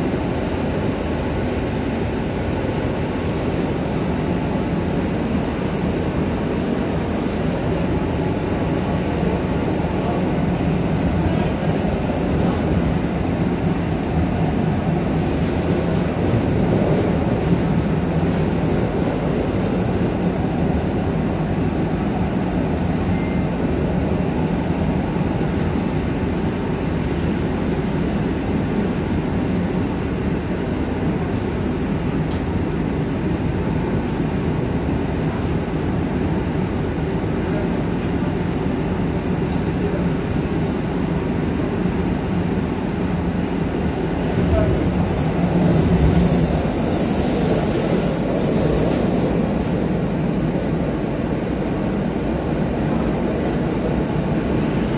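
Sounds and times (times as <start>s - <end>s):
train interior rumble: 0.0s - 54.9s.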